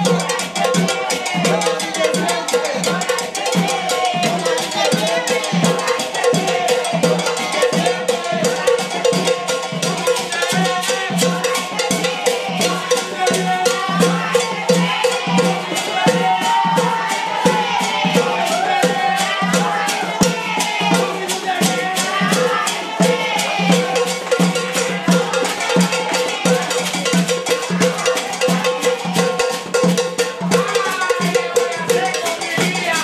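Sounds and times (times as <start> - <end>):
pulsing drum beat: 0.0 - 33.0.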